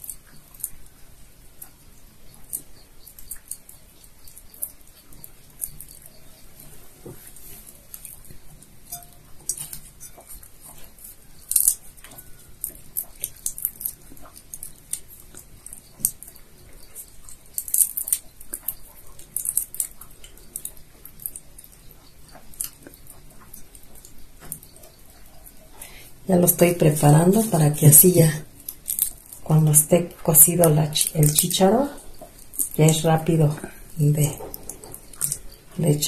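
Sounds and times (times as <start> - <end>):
shrimp shells crackling: 2.4 - 36.0.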